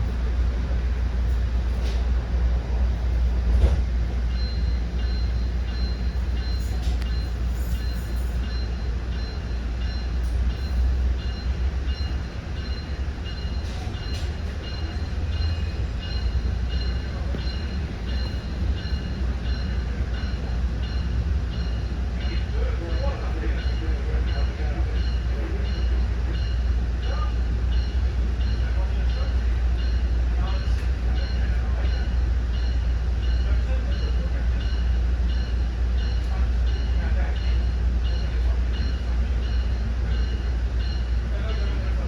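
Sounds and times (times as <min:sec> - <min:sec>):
train rumble inside coach: 0:00.0 - 0:42.0.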